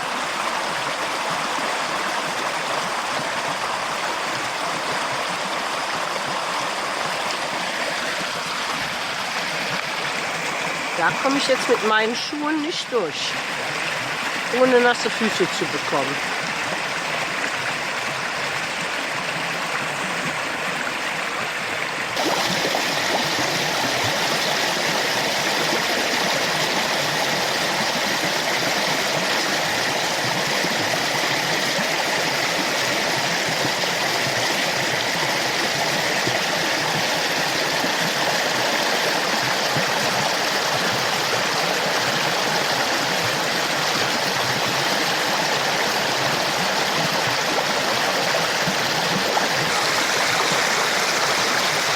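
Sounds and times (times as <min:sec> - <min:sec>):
flooded creek rushing: 0:00.0 - 0:51.9.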